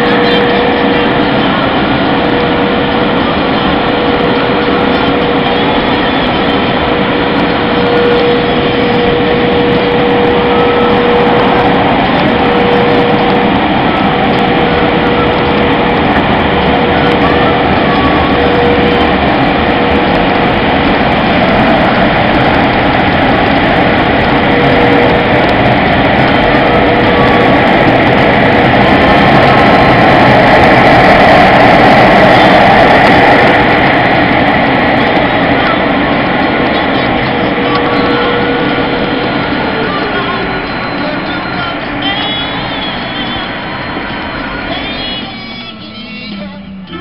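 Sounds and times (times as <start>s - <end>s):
car wash machinery rushing: 0.0s - 46.1s
constant machinery hum: 0.0s - 47.0s.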